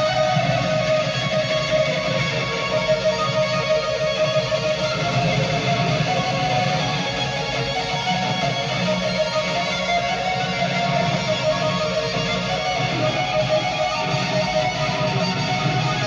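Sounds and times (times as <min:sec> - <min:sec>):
electric guitar: 0:00.0 - 0:16.0.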